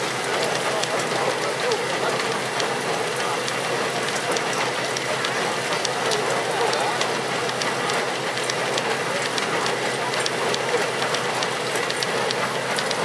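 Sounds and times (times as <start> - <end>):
threshing machine rattling whir: 0.0 - 13.0
sharp ticks: 0.2 - 13.0.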